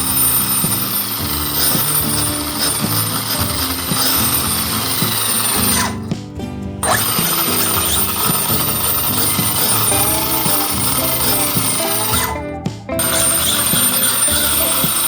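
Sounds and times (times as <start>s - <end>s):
low stepped tones music: 0.0s - 15.0s.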